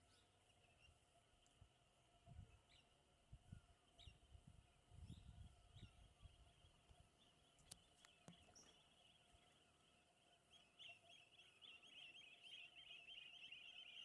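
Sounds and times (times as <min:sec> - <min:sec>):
faint high background drone: 0:00.0 - 0:14.0.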